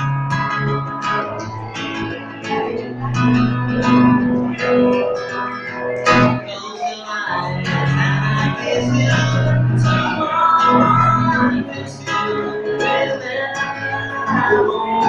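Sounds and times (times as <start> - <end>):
steady bass line: 0.0 - 6.4, 7.3 - 13.1
guitar music: 0.0 - 15.0
sharp guitar strum: 0.0 - 15.0.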